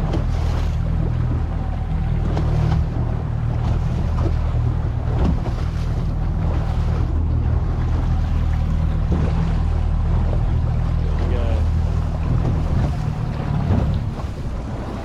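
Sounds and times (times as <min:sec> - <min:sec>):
boat motor humming: 0:00.0 - 0:15.0
sea: 0:00.0 - 0:15.0.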